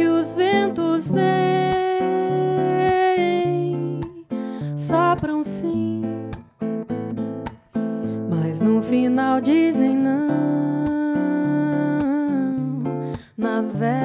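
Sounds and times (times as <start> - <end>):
woman singing: 0.0 - 6.5, 8.1 - 14.0
fingerpicked nylon-string guitar: 0.0 - 14.0.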